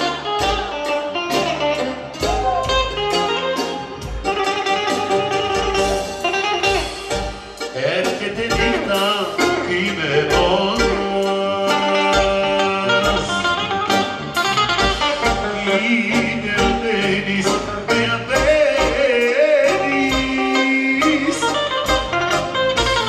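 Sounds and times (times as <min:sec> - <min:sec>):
live band dance music: 0:00.0 - 0:23.0.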